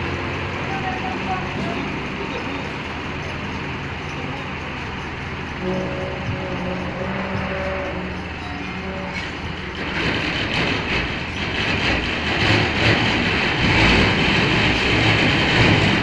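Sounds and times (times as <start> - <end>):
heavy truck rumbling past: 0.0 - 16.0.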